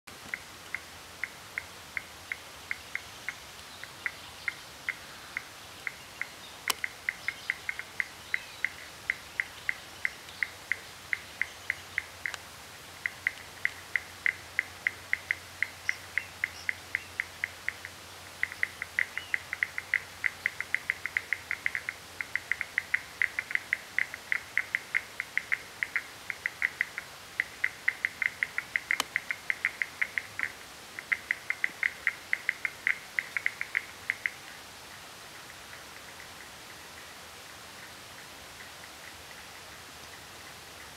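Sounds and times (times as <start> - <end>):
frog calling with high clicks: 0.3 - 34.6.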